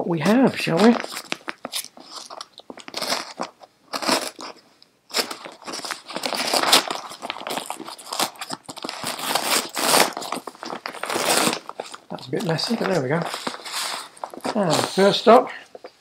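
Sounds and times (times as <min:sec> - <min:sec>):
paper envelope tearing: 0:00.6 - 0:15.4.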